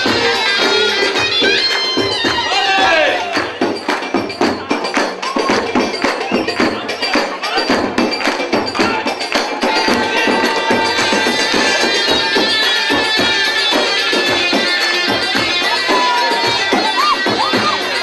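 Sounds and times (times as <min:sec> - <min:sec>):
crowd clapping along: 0:00.0 - 0:18.0
fast drums and percussion: 0:00.0 - 0:18.0.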